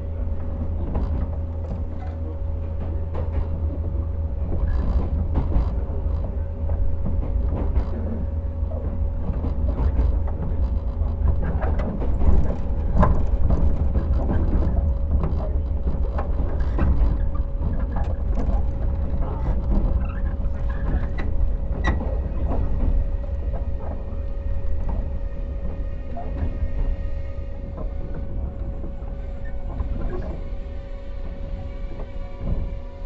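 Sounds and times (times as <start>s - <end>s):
constant motor hum: 0.0s - 33.0s
electric train rumbling on rails: 0.0s - 33.0s
wheels clicking over rail joints: 0.4s - 33.0s.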